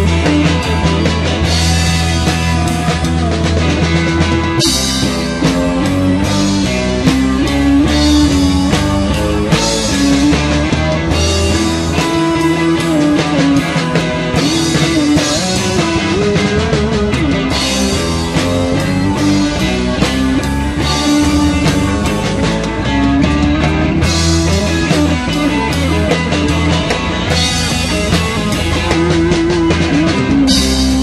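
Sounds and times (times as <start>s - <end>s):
bass and drum kit: 0.0s - 31.0s
electric guitar bending notes: 0.0s - 31.0s.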